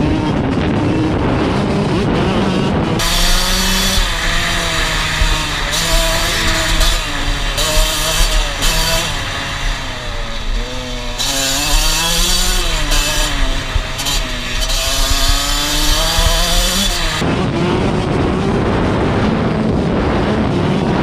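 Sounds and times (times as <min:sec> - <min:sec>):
low rumble: 0:00.0 - 0:20.8
small engine revving: 0:00.0 - 0:21.0.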